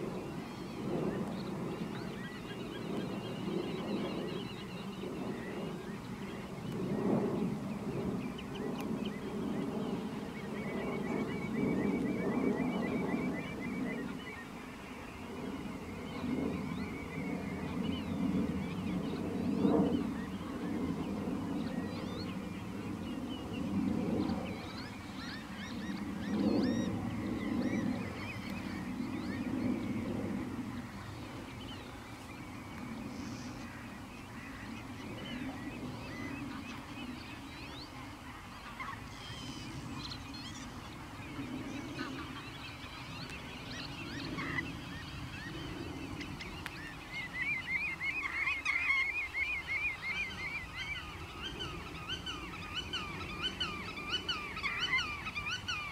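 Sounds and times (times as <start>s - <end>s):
lower longer bird calls: 0.0s - 55.9s.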